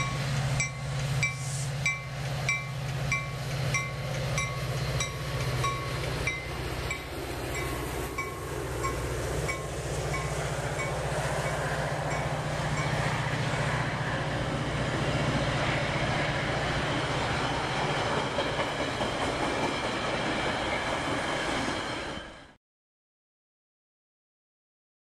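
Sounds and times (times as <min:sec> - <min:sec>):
train wheels rumbling on rails: 0:00.0 - 0:22.6.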